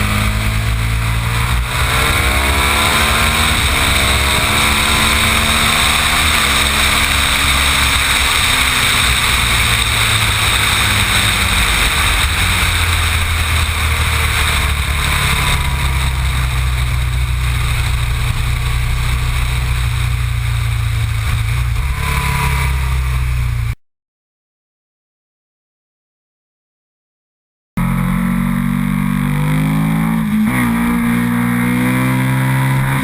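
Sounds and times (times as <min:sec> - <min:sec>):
motorcycle engine running: 0:00.0 - 0:23.8, 0:27.8 - 0:33.0.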